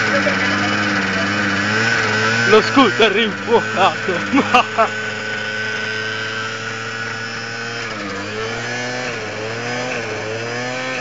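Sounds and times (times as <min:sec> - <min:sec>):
two-stroke scooter engine revving: 0:00.0 - 0:11.0.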